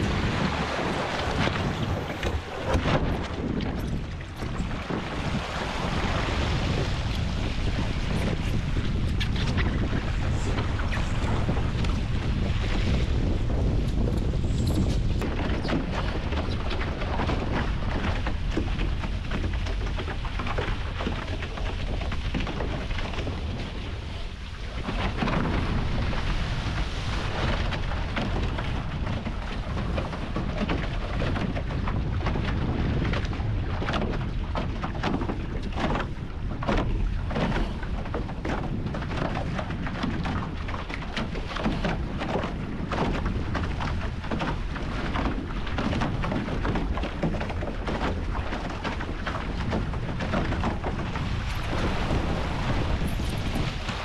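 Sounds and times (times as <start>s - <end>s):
water rushing along hulls: 0.0s - 54.0s
wind buffeting microphone: 0.0s - 54.0s.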